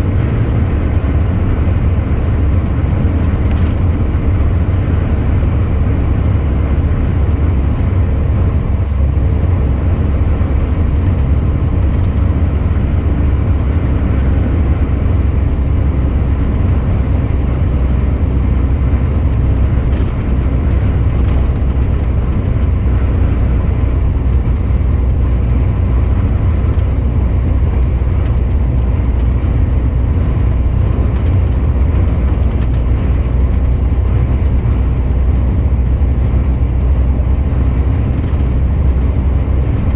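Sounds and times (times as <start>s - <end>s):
truck driving: 0.0s - 39.9s.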